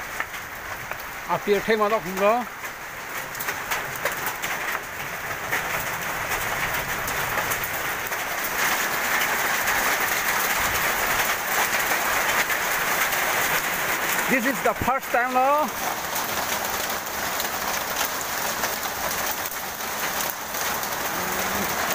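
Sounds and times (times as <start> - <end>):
hailstones striking hard surfaces: 0.1 - 21.9.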